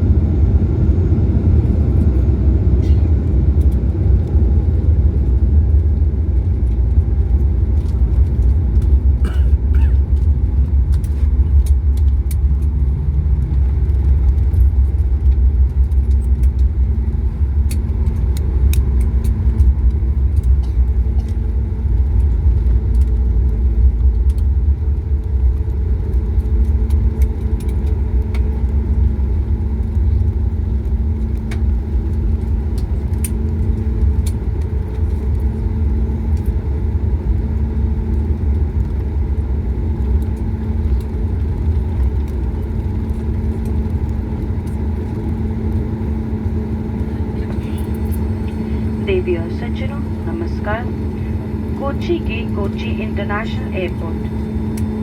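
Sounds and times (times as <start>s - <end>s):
aircraft cabin rumble: 0.0s - 55.0s
faint steady hum: 6.4s - 55.0s.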